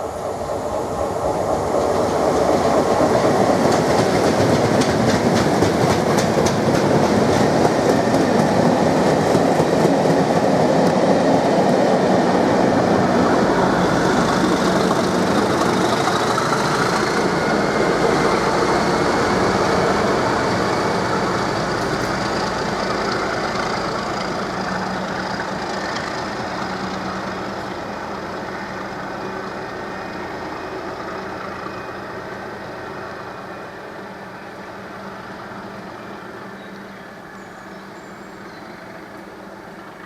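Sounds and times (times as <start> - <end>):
train rumble passing: 0.0 - 40.0.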